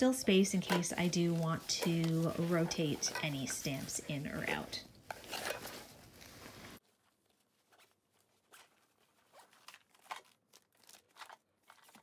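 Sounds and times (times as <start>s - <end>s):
plastic packet crinkling: 0.0s - 12.0s
rustling in tote bag: 0.0s - 12.0s.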